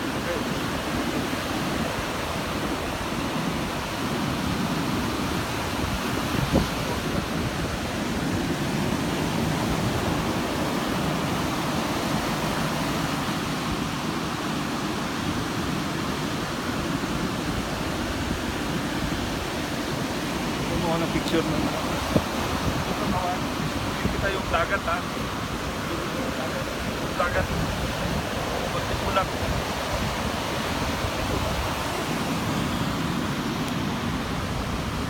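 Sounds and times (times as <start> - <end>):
surf washing onto a beach: 0.0 - 35.0.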